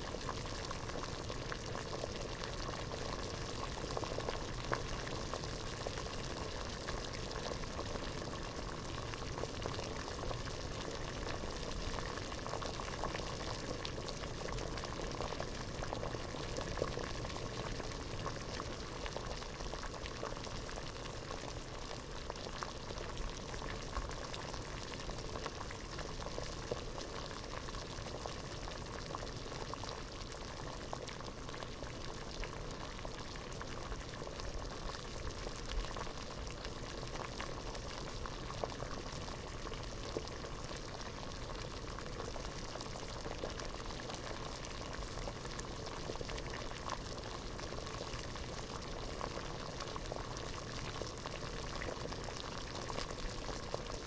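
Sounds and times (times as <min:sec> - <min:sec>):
water boiling in a pot: 0:00.0 - 0:54.0.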